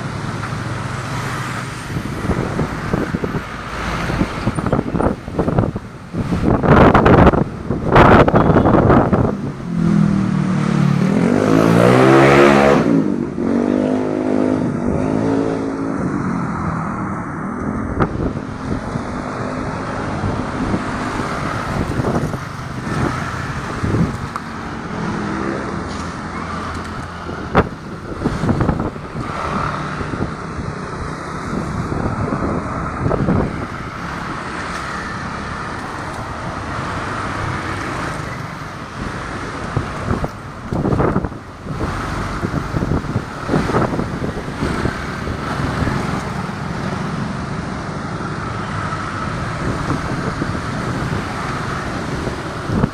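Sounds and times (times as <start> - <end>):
strong wind buffeting microphone: 0.0 - 13.6, 14.4 - 52.9
vehicle engine passing: 0.0 - 52.9.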